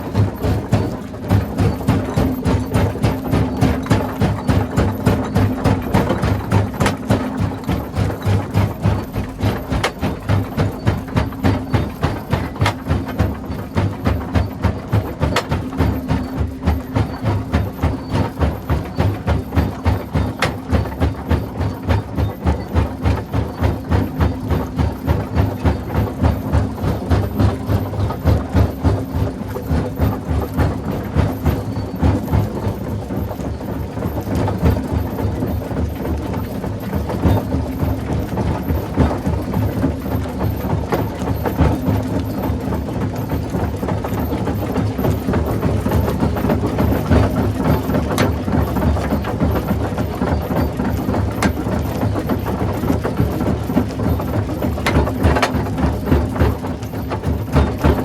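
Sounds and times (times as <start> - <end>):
rock crushing machine rumbling: 0.0 - 58.0.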